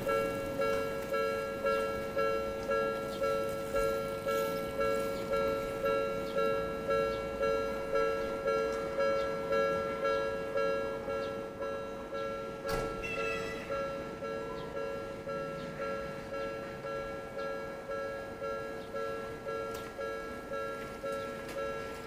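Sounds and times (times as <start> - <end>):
level crossing two-tone bell: 0.0 - 22.0.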